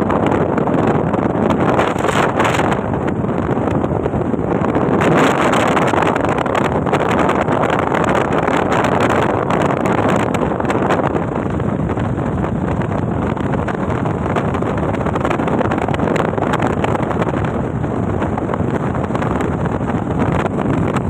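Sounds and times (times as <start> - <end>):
wind and road noise: 0.0 - 21.0
wind buffeting microphone: 0.0 - 21.0.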